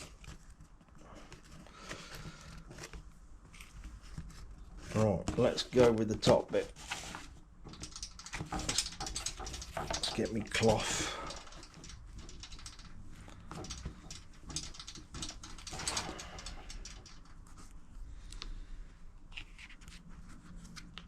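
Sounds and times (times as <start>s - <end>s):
light clicks and rustles: 0.0s - 18.6s.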